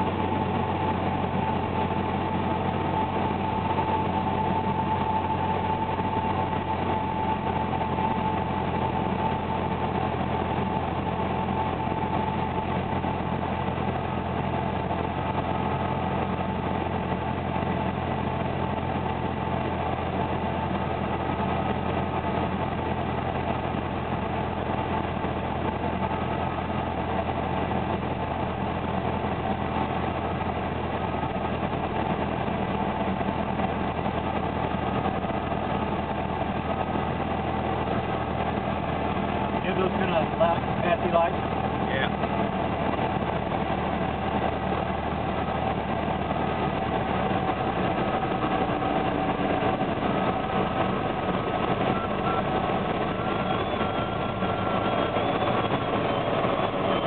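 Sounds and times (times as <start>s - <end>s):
airplane engine droning: 0.0s - 57.0s.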